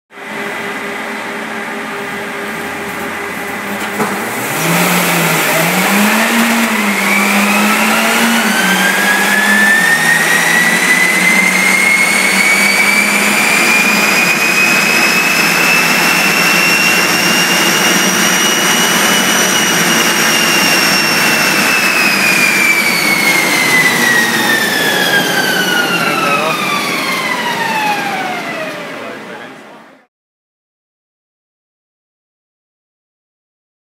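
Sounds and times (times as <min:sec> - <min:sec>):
car engine revving on dyno: 0:00.2 - 0:30.1
high whine: 0:00.2 - 0:30.1.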